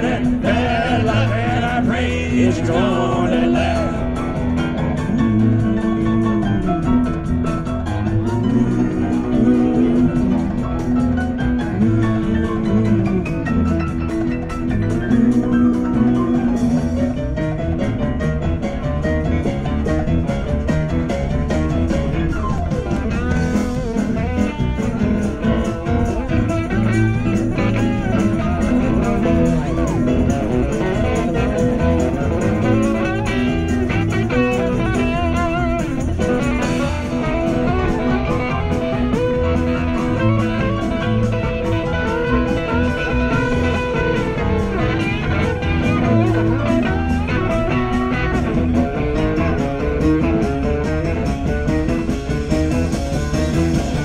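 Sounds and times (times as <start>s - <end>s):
bass guitar: 0.0s - 54.0s
lead guitar solo: 0.0s - 54.0s
steady drum beat: 0.0s - 54.0s.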